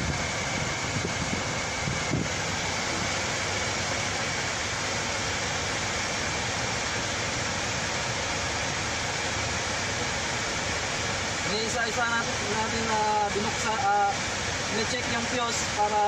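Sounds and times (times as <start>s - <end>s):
rushing noise inside truck cab: 0.0s - 16.0s.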